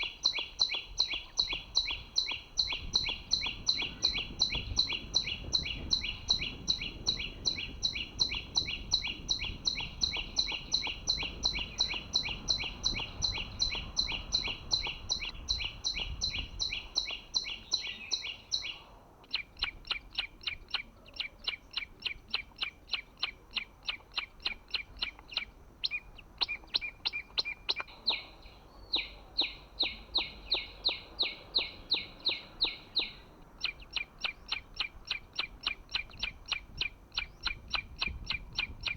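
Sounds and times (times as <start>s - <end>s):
bird ticking notes: 0.0s - 38.9s
songbird sharp chirps: 0.0s - 38.9s.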